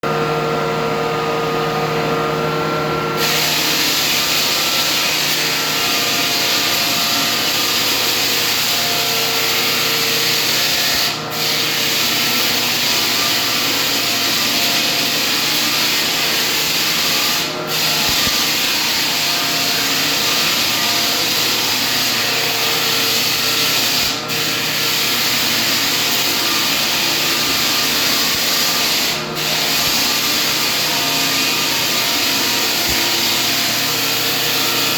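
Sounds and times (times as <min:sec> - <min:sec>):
floor sanding machine: 0:00.0 - 0:34.9.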